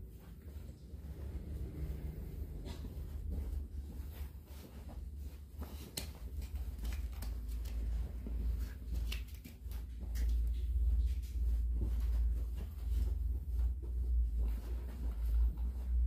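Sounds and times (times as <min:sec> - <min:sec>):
bare footsteps on mattress: 0:00.0 - 0:16.0
low steady rumble: 0:00.0 - 0:16.0.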